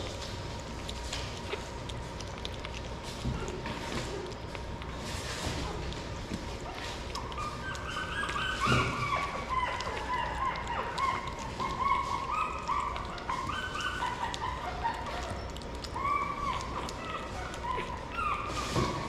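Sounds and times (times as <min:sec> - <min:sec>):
puppies whimpering: 0:00.8 - 0:19.0.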